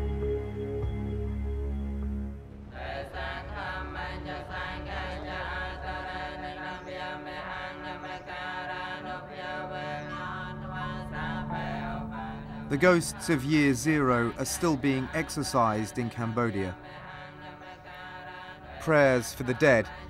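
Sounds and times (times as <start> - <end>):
voices chanting prayers: 2.5 - 20.0.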